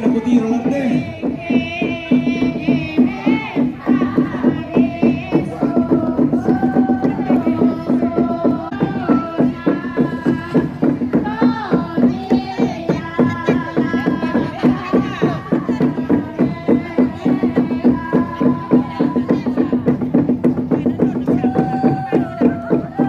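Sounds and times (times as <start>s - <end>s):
regular drumbeat: 0.0s - 23.0s
women chanting: 0.9s - 23.0s.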